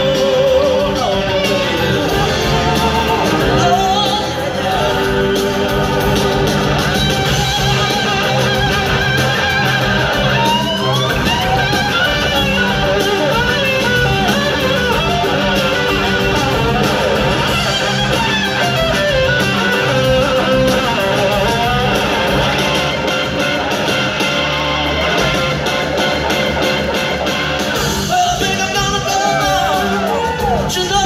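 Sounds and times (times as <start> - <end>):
electric slide guitar: 0.0 - 30.7
live blues-rock band: 0.0 - 31.0.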